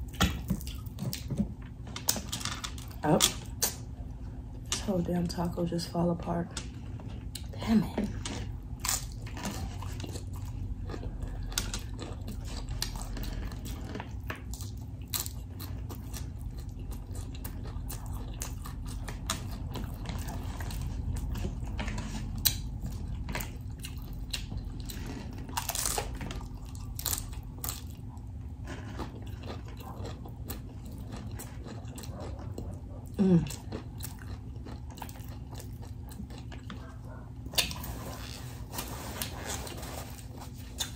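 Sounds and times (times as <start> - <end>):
chewing crunchy taco shell: 0.0 - 4.8, 6.5 - 40.9.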